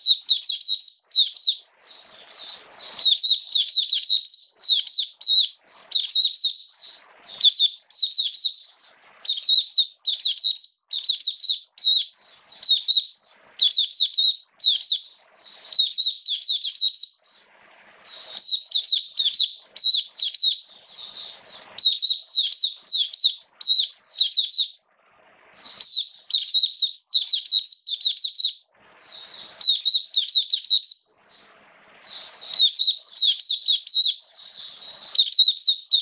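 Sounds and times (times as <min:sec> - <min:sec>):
bird twittering chirps: 0:00.0 - 0:24.8, 0:25.4 - 0:36.0.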